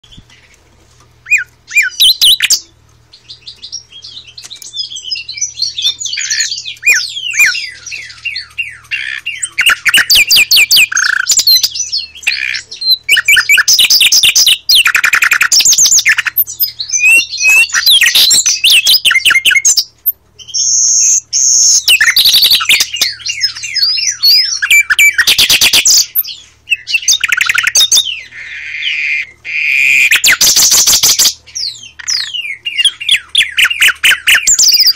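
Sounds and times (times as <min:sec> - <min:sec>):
nightingale singing: 0:01.2 - 0:34.9.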